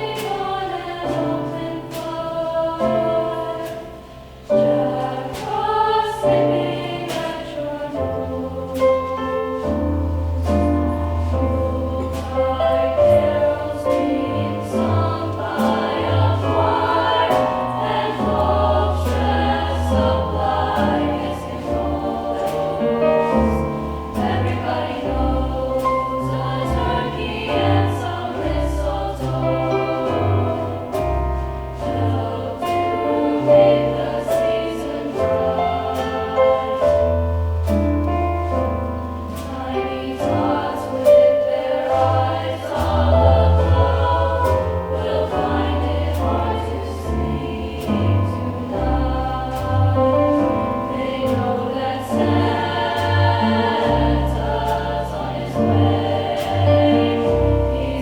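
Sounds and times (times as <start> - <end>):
choir singing: 0.0 - 58.0
instrumental accompaniment: 0.0 - 58.0.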